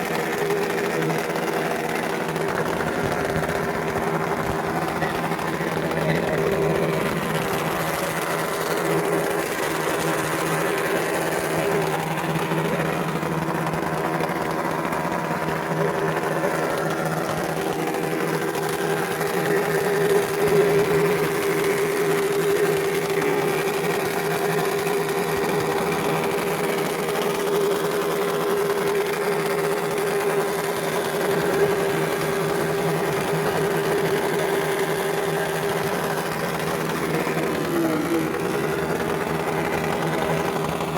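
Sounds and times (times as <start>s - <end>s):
motorcycle engines running steadily: 0.0s - 40.9s.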